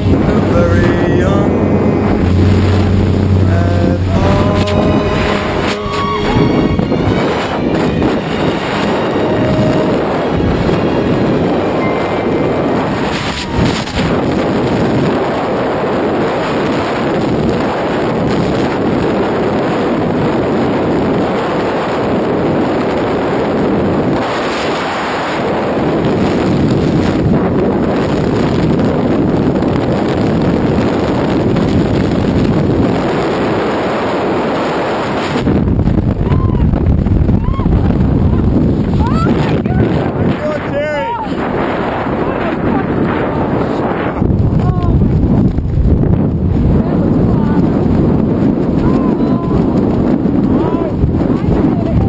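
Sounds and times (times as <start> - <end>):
freefall wind buffeting microphone: 0.0 - 52.0.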